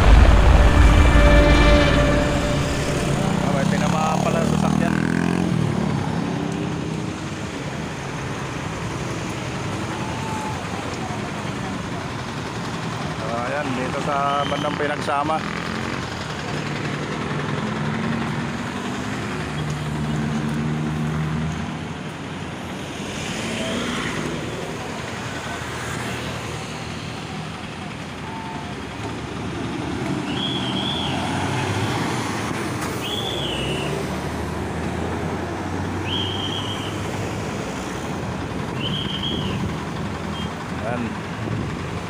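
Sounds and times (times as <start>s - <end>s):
vehicles passing: 0.0s - 42.0s.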